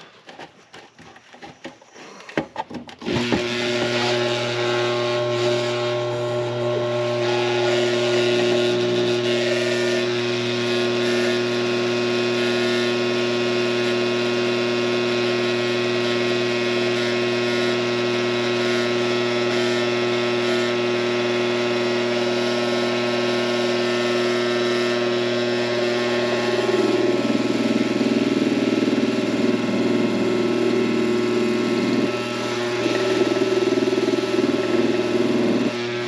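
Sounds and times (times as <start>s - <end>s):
blower fan motor humming: 3.0s - 36.0s.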